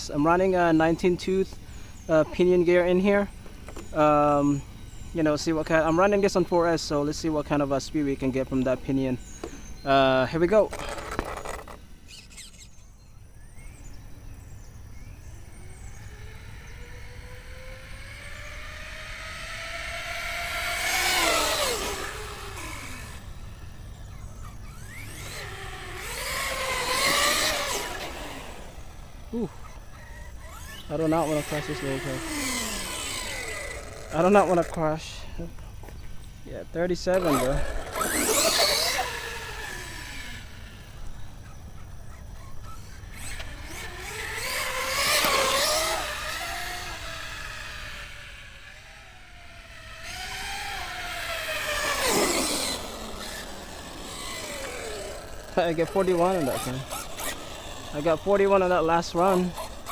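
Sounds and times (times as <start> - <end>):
electric toy truck motor whine: 8.2 - 35.2, 35.9 - 59.9.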